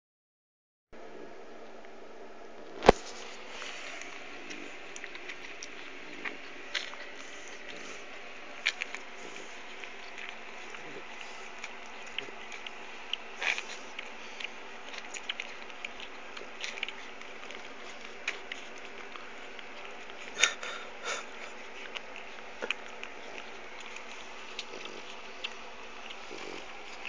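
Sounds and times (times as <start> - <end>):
puppies suckling wet clicks: 2.9 - 27.0.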